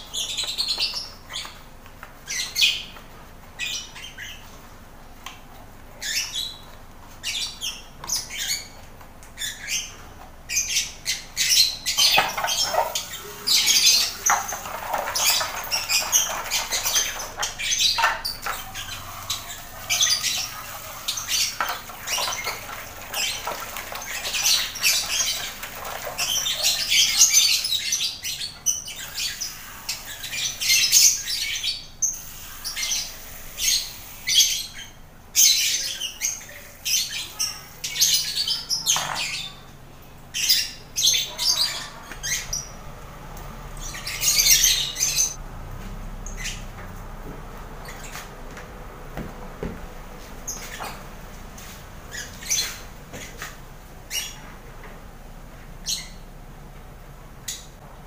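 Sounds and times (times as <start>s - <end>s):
birds chirping and squawking: 0.0s - 45.4s, 46.2s - 48.7s, 49.6s - 57.9s.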